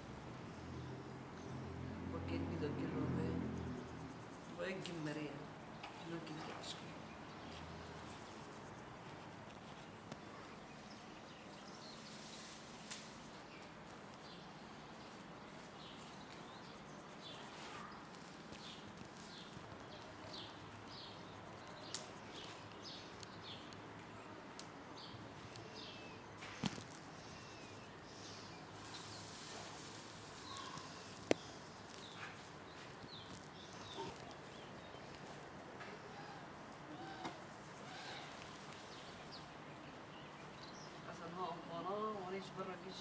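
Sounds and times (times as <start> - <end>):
faint background hiss: 0.0 - 43.0
small birds chirping: 3.2 - 43.0.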